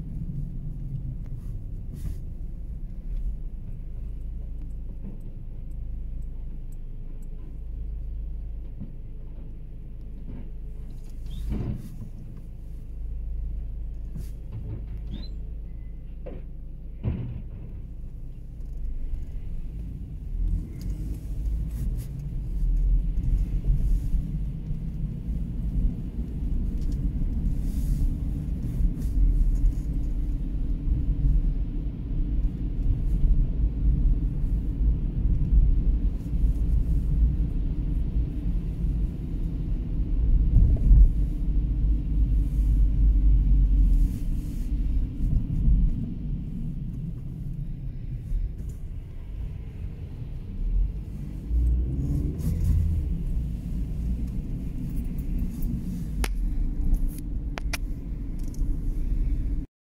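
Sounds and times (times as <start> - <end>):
car driving rumble from inside: 0.0 - 59.7.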